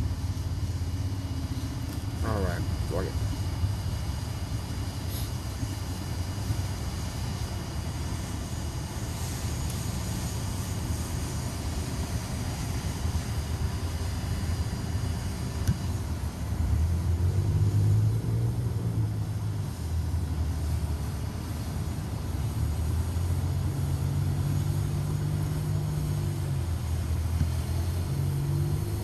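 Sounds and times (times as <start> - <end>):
drone motors and propellers humming: 0.0 - 29.0.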